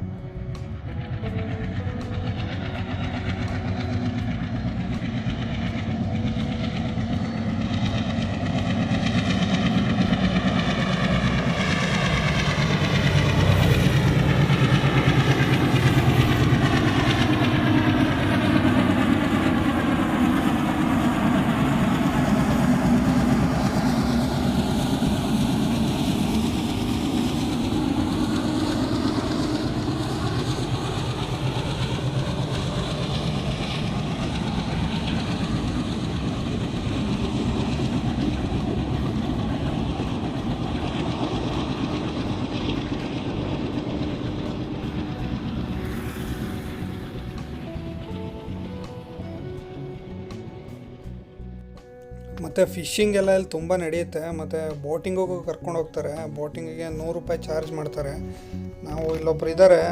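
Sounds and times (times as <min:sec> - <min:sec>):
train rumbling over bridge: 0:00.0 - 0:59.9.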